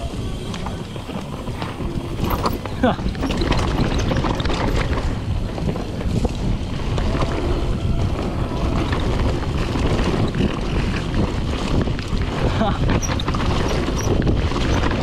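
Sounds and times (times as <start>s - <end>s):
bike clicks and rattles: 0.0s - 15.0s
bike tyre roar: 0.0s - 15.0s
wind buffeting microphone: 0.0s - 15.0s.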